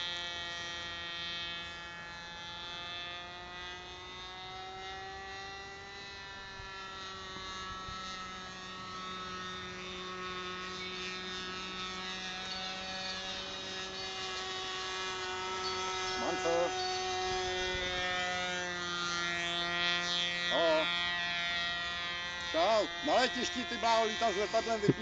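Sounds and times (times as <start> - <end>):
model airplane engine droning: 0.0 - 25.0.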